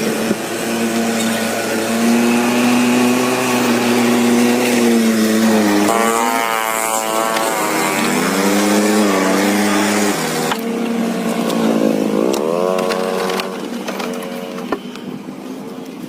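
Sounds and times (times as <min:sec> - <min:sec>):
motor humming: 0:00.0 - 0:15.2.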